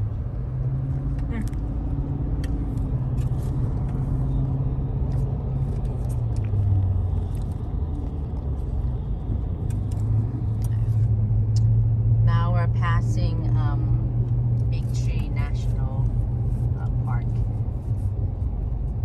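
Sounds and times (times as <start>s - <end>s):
road and engine noise in car: 0.0s - 19.0s.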